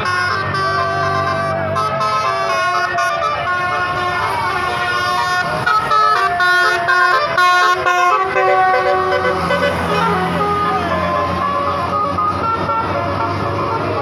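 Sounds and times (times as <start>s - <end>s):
bus horn playing tune: 0.0s - 14.0s
low engine hum: 0.0s - 14.0s.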